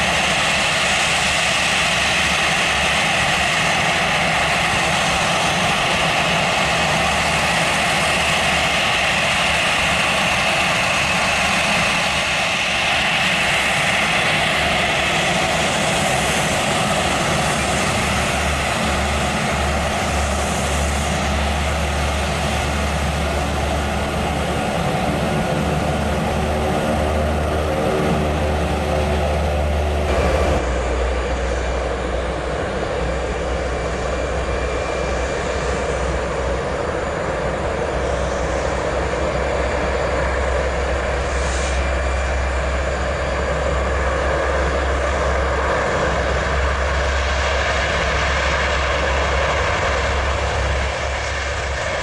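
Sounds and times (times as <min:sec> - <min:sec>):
jet engines whining: 0:00.0 - 0:52.0
propeller engine drone: 0:00.0 - 0:52.0.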